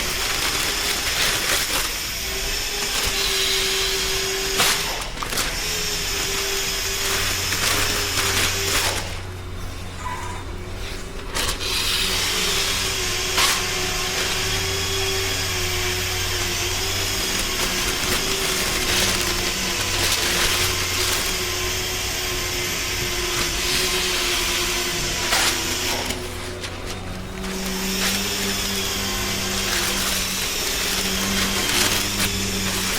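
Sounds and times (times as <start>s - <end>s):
power tool whining: 0.0s - 32.9s.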